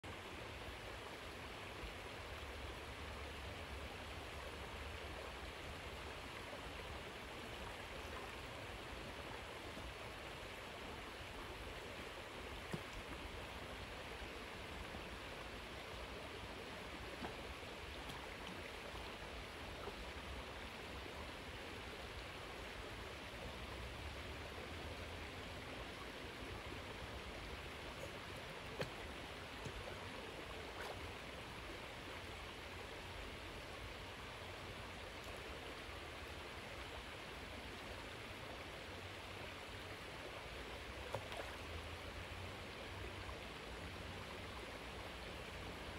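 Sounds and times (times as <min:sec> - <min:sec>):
creek water running: 0:00.0 - 0:45.9.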